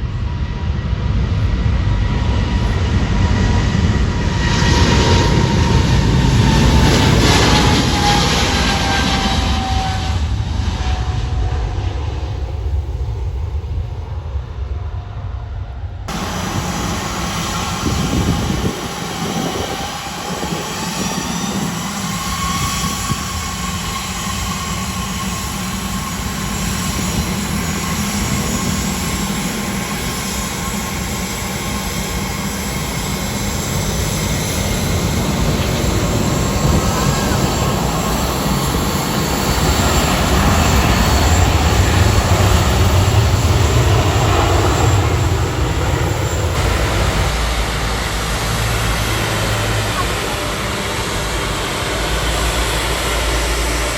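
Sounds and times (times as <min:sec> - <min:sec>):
aircraft engines running: 0:00.0 - 0:53.9.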